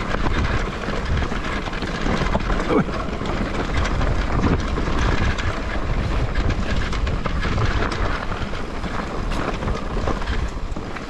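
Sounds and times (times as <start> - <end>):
bike and stones rattling: 0.0 - 11.0
bike tyres rolling over dirt: 0.0 - 11.0
wind buffeting microphone: 0.0 - 11.0.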